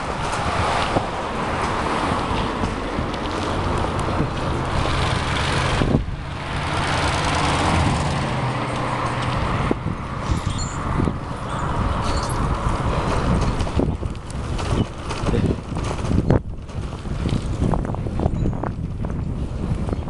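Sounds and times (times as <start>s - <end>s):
traffic and road noise: 0.0s - 20.0s
wind rushing over microphone: 0.0s - 20.0s.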